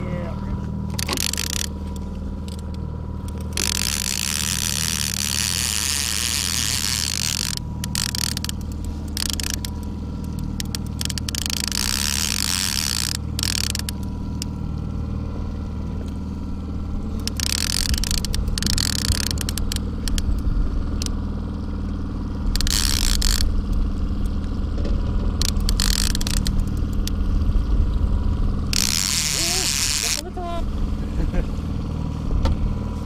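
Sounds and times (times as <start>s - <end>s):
outboard motor humming: 0.0s - 33.0s.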